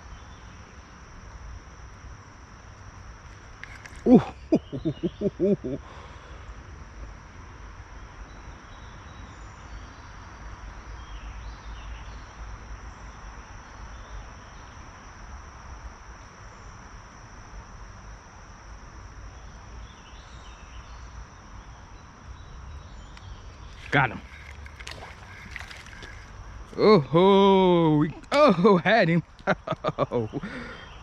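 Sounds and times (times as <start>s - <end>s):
high-pitched insect drone: 0.0s - 6.6s, 8.7s - 31.0s.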